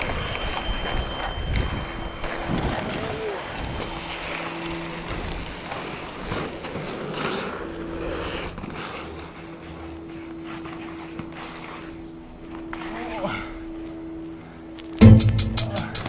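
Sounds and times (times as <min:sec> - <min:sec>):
skate wheels rolling on asphalt: 0:00.0 - 0:15.0.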